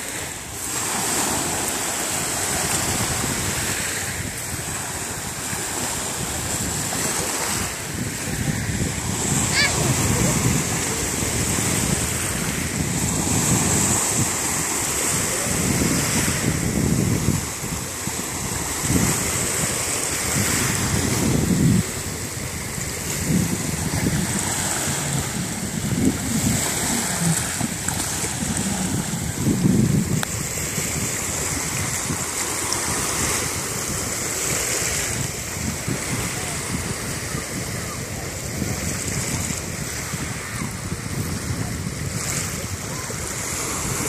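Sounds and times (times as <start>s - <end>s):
waves washing onto stony shore: 0.0s - 44.0s
wind gusting against microphone: 0.0s - 44.0s.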